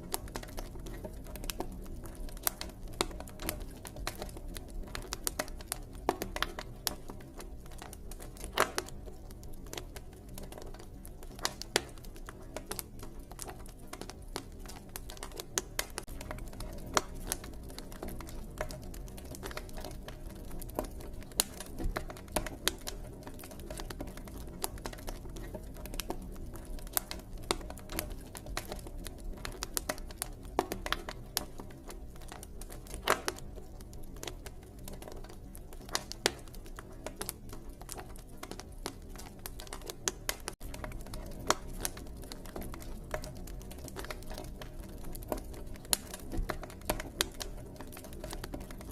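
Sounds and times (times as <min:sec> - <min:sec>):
campfire crackling: 0:00.0 - 0:48.9.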